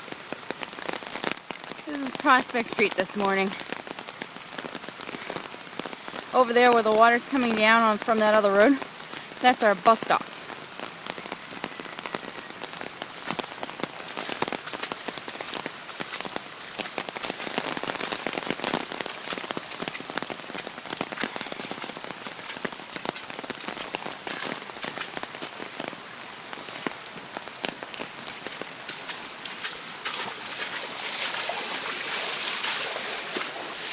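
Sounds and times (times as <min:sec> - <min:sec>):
heavy rain pouring: 0:00.0 - 0:33.9
raindrops tapping close by: 0:00.0 - 0:33.9.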